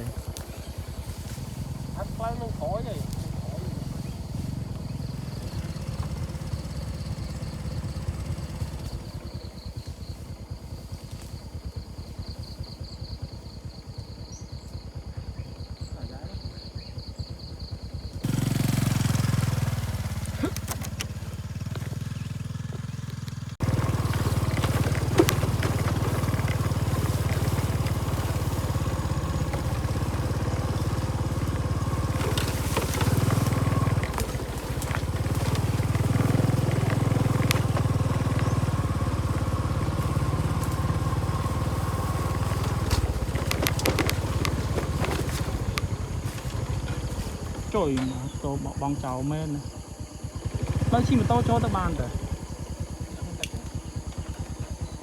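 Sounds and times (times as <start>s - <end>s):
small motorcycle engine running: 0.0s - 55.0s.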